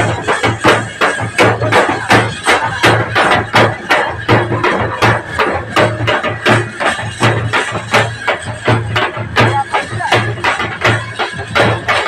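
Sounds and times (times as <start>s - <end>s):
deep low drum beat: 0.0s - 12.0s.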